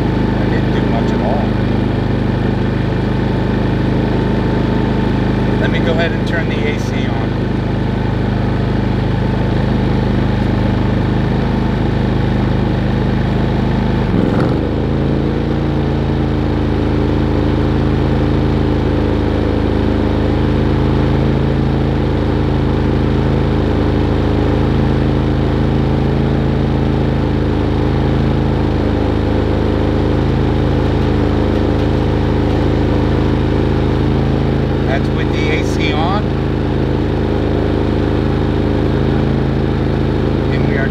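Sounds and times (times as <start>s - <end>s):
generator engine running: 0.0s - 40.9s.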